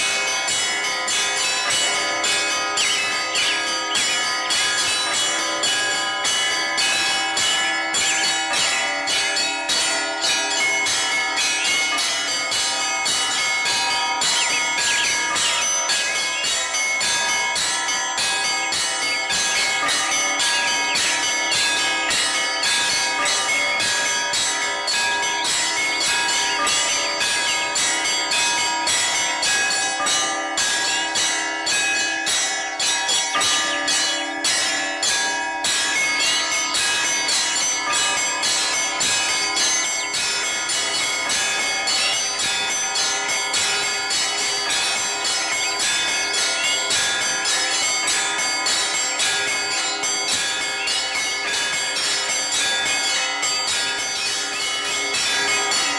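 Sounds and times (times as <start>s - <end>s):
church bells pealing: 0.0s - 55.9s.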